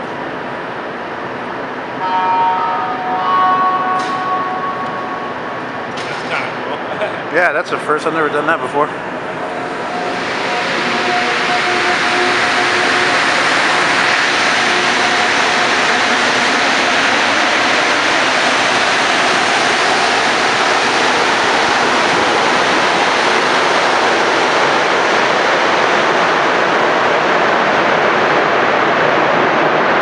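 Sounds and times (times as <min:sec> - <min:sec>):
faint train whine: 0:00.0 - 0:30.0
train rushing noise: 0:00.0 - 0:30.0.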